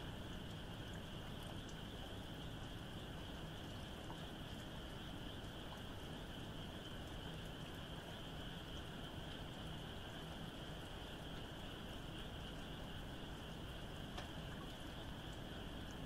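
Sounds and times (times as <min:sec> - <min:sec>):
distant frogs trilling: 0:00.0 - 0:16.0
light rain falling: 0:00.0 - 0:16.0.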